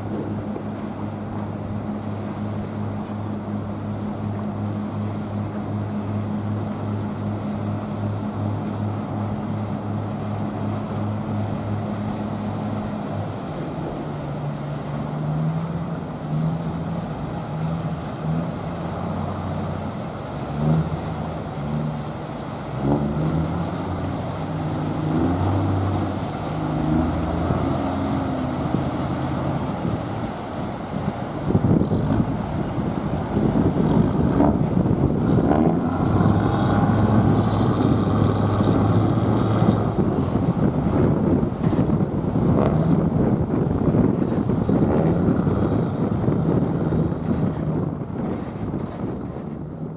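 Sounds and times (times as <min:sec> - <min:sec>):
ferry engine humming: 0:00.0 - 0:49.9
propeller wash churning: 0:00.0 - 0:49.9.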